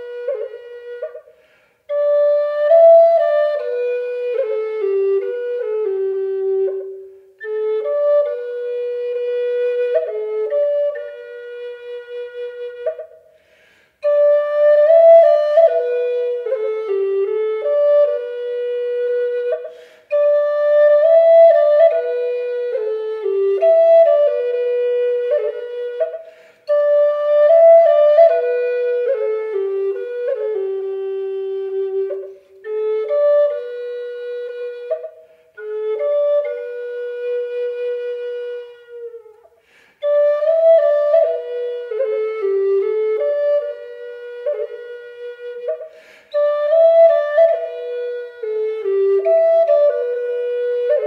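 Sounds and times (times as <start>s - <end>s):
solo flute melody: 0.0s - 51.0s.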